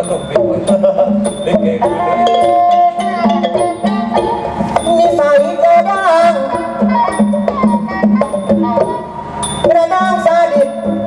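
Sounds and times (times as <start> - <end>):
melodic instruments playing: 0.0 - 11.0.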